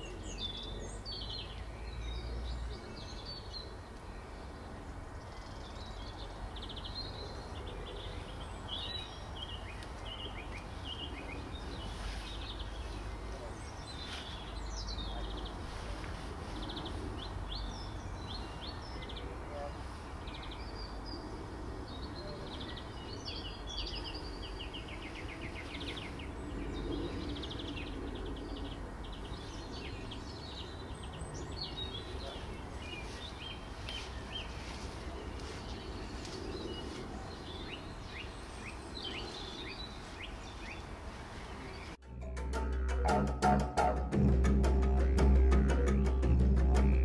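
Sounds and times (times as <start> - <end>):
small birds chirping and trilling: 0.0 - 42.0.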